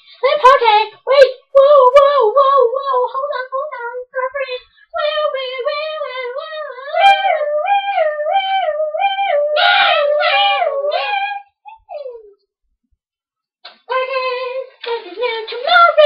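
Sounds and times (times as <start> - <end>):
high-pitched voice singing: 0.2 - 12.4, 13.7 - 16.0.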